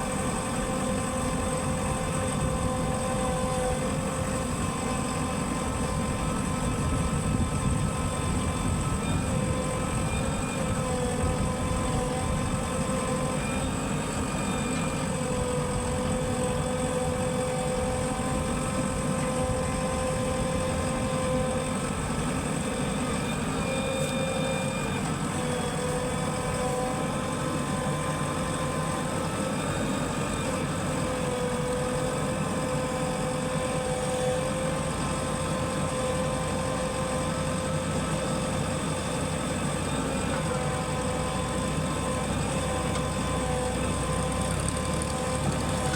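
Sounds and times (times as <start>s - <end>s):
heavy machinery engine running: 0.0s - 45.9s
steady whine: 0.0s - 45.9s.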